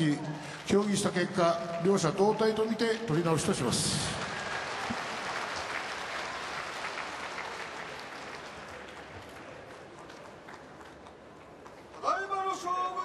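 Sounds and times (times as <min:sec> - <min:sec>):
arena crowd applauding: 0:00.0 - 0:13.0.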